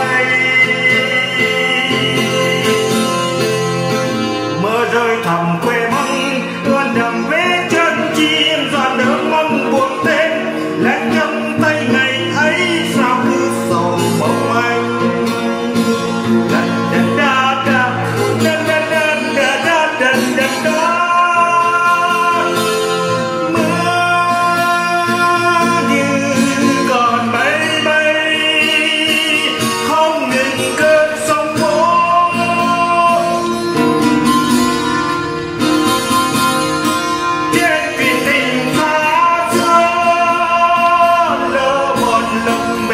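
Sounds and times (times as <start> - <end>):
man singing a ballad: 0.0 - 35.1, 36.5 - 42.9
plucked acoustic guitar: 0.0 - 42.9.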